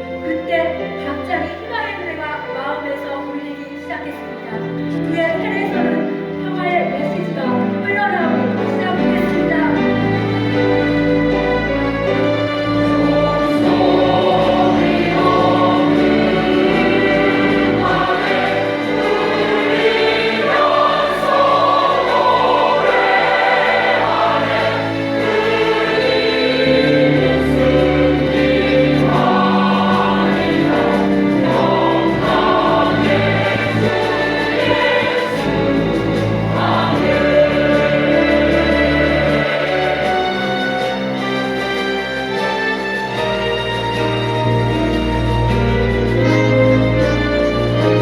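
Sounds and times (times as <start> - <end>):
low held accompaniment notes: 0.0 - 48.0
choir singing: 8.9 - 48.0.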